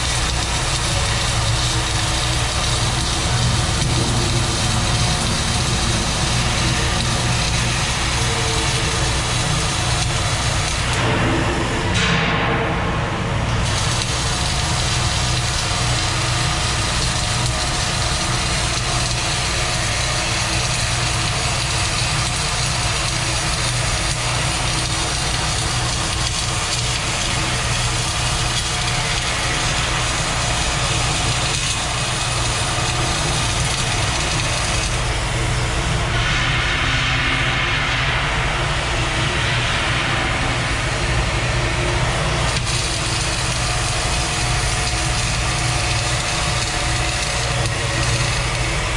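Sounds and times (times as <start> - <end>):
welding arc hissing: 0.0 - 12.3, 13.5 - 48.9
constant low hum: 0.0 - 48.9.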